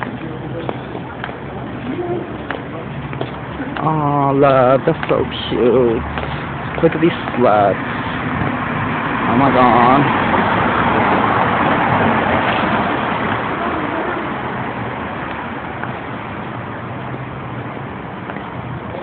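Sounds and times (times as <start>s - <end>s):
traffic hum: 0.0s - 19.0s
vehicle passing: 0.0s - 19.0s.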